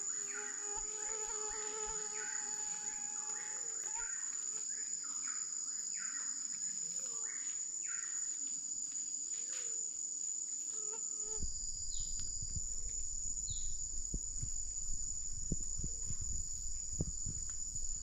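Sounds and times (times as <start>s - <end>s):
forest insects chorus: 0.0s - 18.0s.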